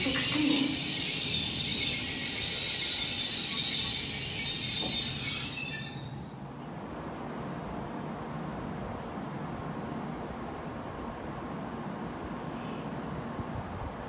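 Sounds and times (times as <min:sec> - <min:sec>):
high-speed train rushing hiss: 0:00.0 - 0:12.5.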